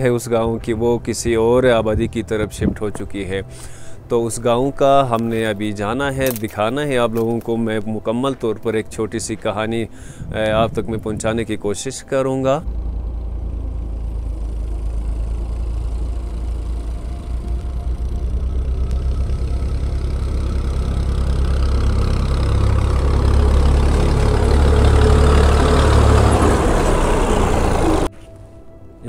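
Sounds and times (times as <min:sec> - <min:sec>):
tractor engine approaching: 0:00.0 - 0:28.8.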